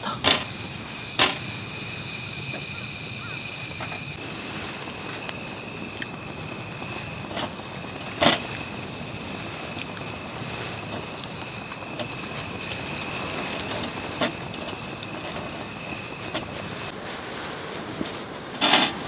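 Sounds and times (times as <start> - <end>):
rain: 0.0 - 16.9
wind: 0.0 - 19.0.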